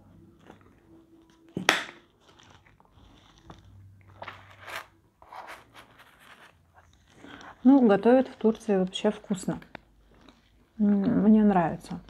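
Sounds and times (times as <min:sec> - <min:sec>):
pizza crust crunching: 0:00.2 - 0:12.0.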